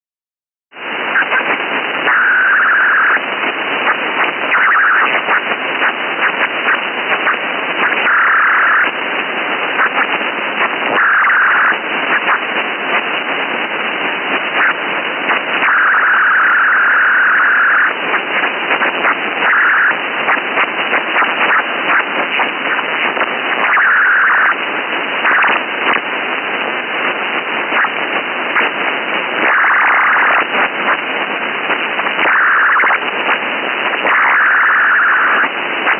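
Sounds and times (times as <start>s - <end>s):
crackling radio static hiss: 0.8s - 35.9s.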